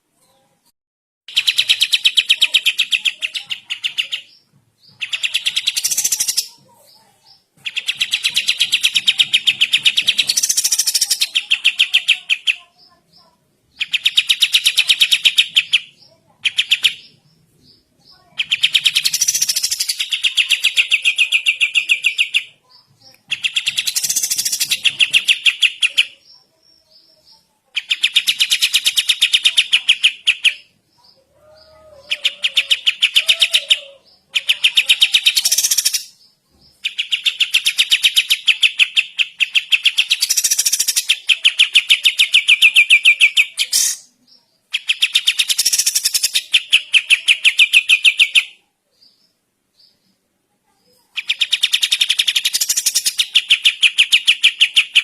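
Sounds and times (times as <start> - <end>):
bird chattering trills: 1.3 - 26.6, 27.2 - 48.6, 51.0 - 55.0.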